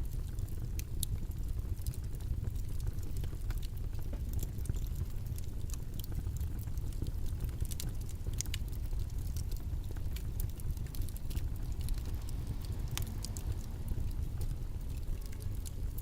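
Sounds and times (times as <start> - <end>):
faint clicks and ticks: 0.0 - 16.0
low rumbling white noise: 0.0 - 16.0.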